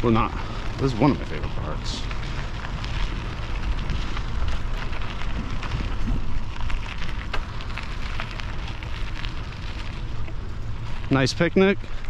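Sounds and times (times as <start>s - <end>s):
low rumble: 0.0s - 12.0s
wind and road noise: 0.0s - 12.0s.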